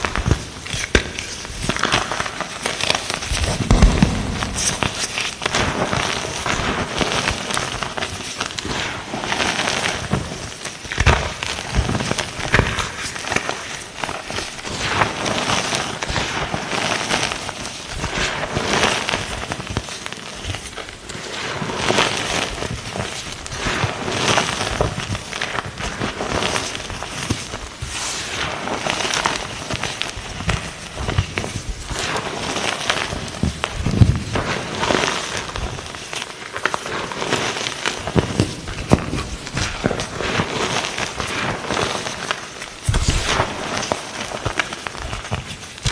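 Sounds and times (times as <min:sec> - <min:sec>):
chalk being crushed: 0:00.0 - 0:16.4, 0:22.1 - 0:45.9.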